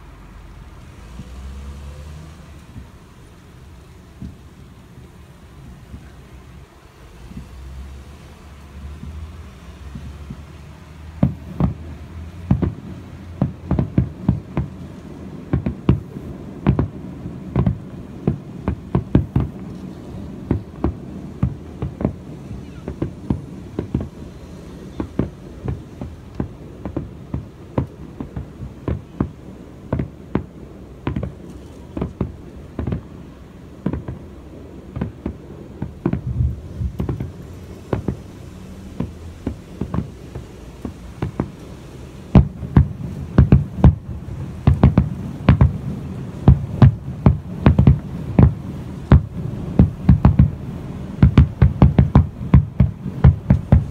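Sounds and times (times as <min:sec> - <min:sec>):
firework shells bursting: 0:08.6 - 0:53.9.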